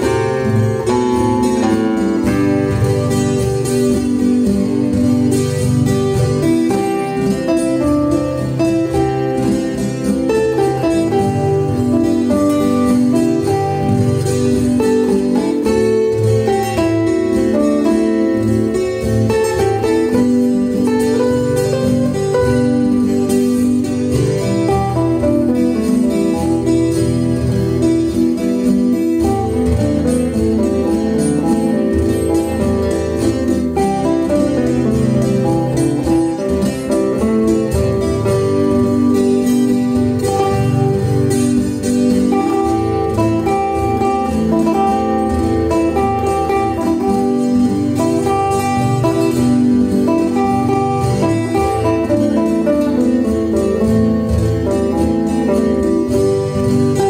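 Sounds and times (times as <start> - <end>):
background guitar music: 0.0 - 57.0.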